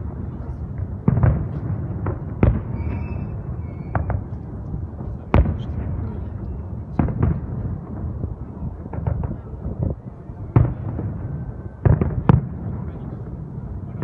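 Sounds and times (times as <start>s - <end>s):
low rumble of distant explosions: 0.0s - 14.0s.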